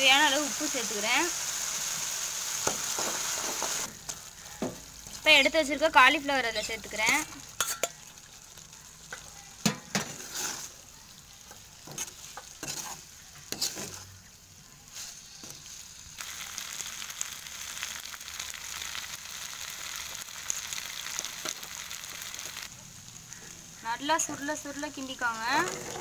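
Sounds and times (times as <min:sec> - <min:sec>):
sauce sizzling: 0:00.0 - 0:26.0.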